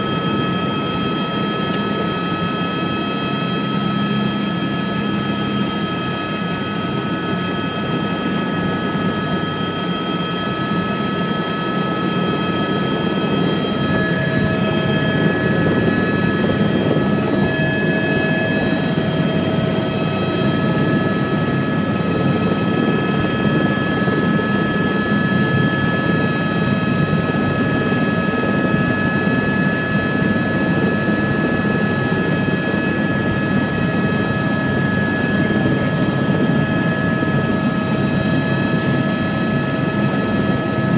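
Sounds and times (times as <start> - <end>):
helicopter rotor rumble: 0.0 - 40.9
high turbine whine: 0.0 - 40.9.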